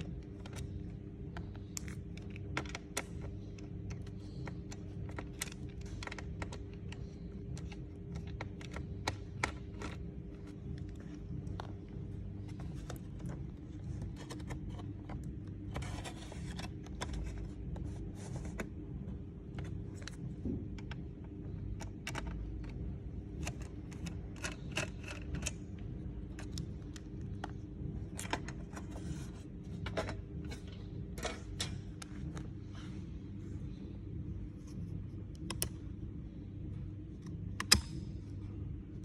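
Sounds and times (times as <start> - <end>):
laptop parts clicking and scraping: 0.0 - 18.8, 19.4 - 32.7
steady low hum: 0.0 - 39.0.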